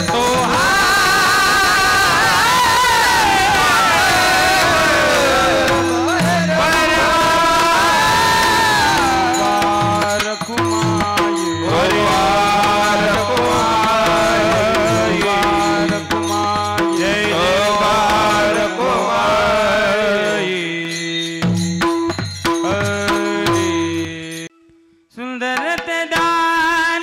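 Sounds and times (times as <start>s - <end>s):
person singing devotional melody: 0.0s - 27.0s.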